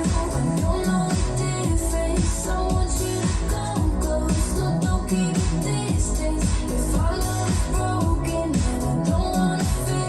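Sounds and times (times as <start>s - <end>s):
electronic dance-pop music: 0.0s - 10.0s.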